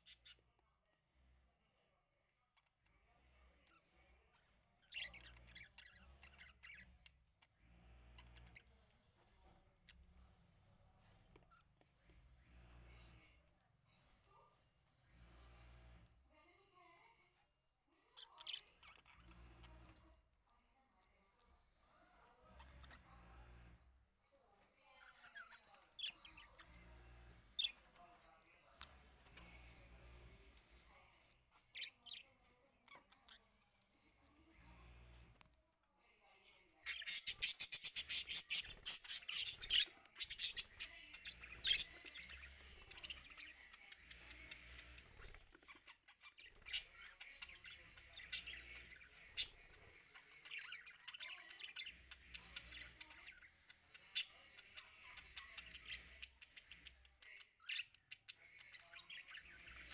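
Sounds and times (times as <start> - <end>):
cage birds chirping: 0.0 - 59.9.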